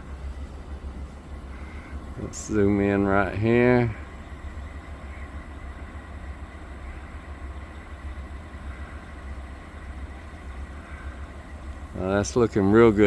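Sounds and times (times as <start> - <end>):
distant heavy machinery rumble: 0.0 - 13.0.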